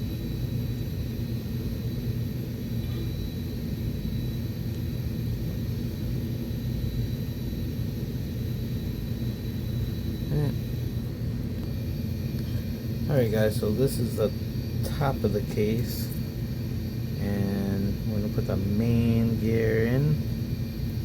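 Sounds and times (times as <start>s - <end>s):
low mechanical machine hum: 0.0s - 21.0s.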